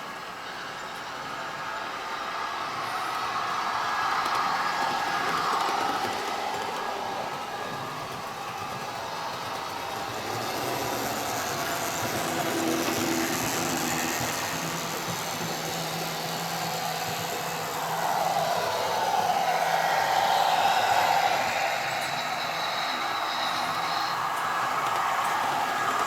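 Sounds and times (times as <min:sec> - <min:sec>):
model train motor whine: 0:00.0 - 0:26.0
model train wheels rumbling on track: 0:00.0 - 0:26.0.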